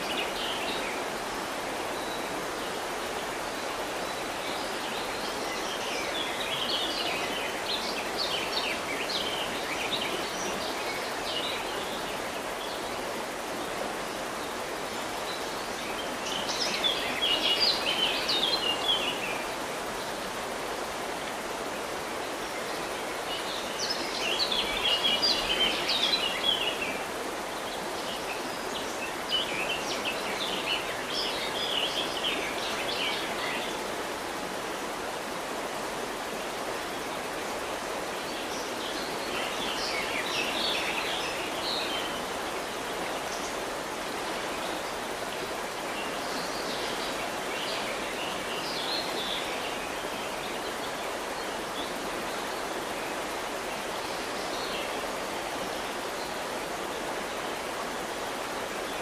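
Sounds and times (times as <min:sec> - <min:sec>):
river water running: 0:00.0 - 0:59.0
songbird chirping: 0:00.0 - 0:59.0.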